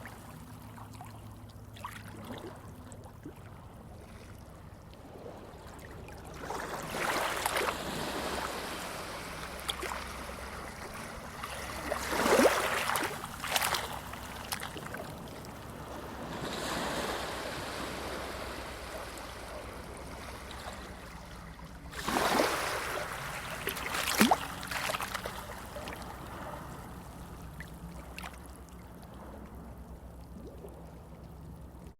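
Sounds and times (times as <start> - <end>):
water splashes: 0.0 - 4.4, 5.0 - 31.8
sea waves breaking: 3.8 - 31.0.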